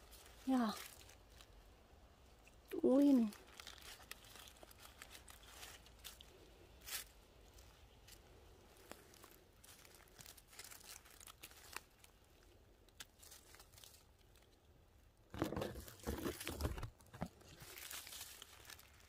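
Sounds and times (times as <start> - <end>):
dry leaves crackling under hand: 0.0 - 14.7, 17.4 - 19.0.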